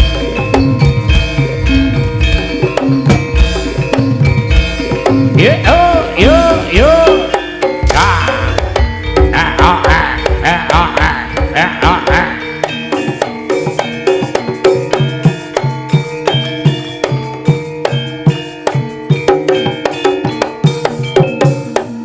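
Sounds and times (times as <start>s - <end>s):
fast hand-drum strokes: 0.0s - 22.0s
gamelan music: 0.0s - 22.0s.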